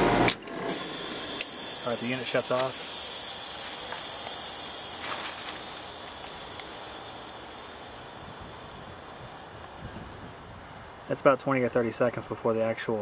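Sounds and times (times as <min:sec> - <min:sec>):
heat pump hiss: 0:00.0 - 0:13.0.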